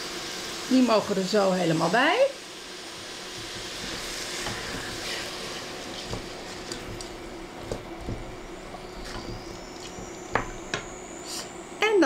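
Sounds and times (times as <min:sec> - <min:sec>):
pot cooking hum and hiss: 0:00.0 - 0:12.0.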